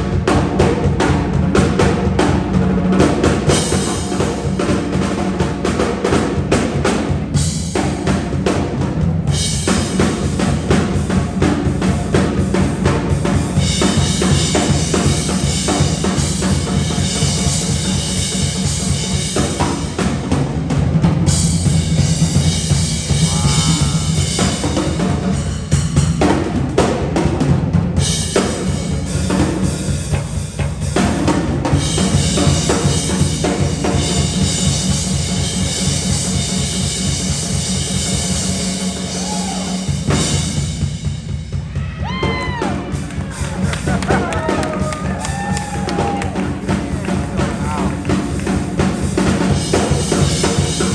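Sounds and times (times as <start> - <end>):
band playing: 0.0 - 50.9
drum kit kick and snare beat: 0.0 - 50.9.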